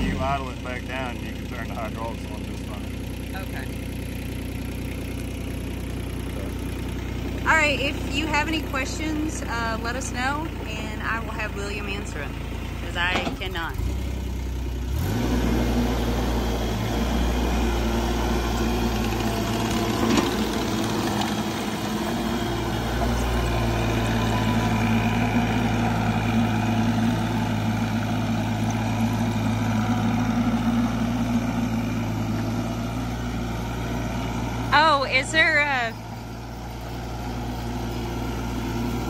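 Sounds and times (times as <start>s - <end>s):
diesel engine running: 0.0s - 39.0s
tracked machine driving: 0.0s - 39.0s.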